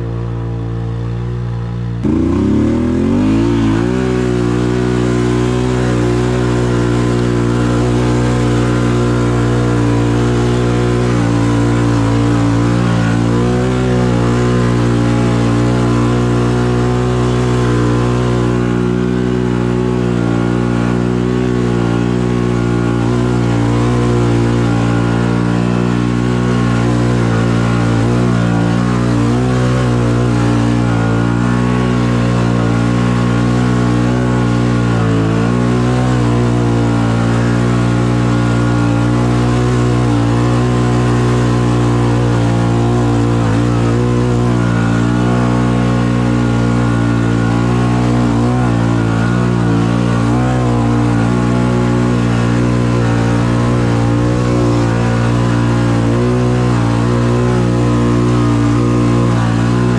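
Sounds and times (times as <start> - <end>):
atv engine running under load: 0.0 - 59.9.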